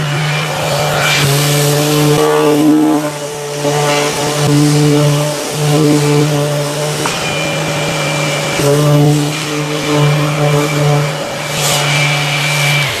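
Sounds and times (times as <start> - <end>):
dust extractor airy hiss: 0.0 - 13.0
orbital sander motor hum: 0.0 - 13.0.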